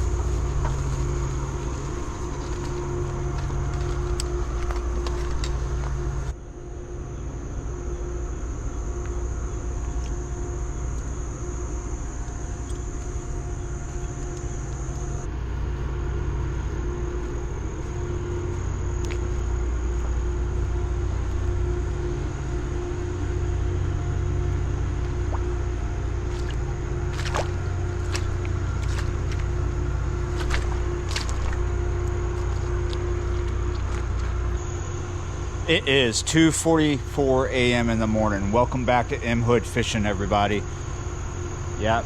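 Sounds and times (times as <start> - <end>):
faint steady whine: 0.0 - 42.0
low engine rumble: 0.0 - 42.0.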